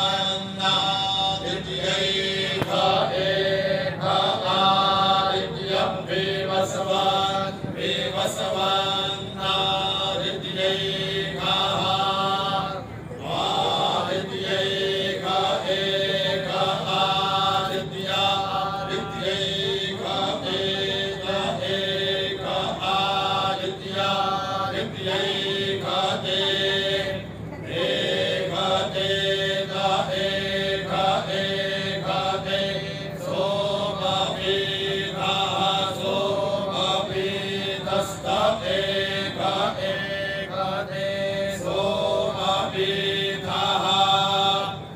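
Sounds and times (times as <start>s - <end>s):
men chanting in unison: 0.0s - 44.9s
steady drone: 0.0s - 44.9s.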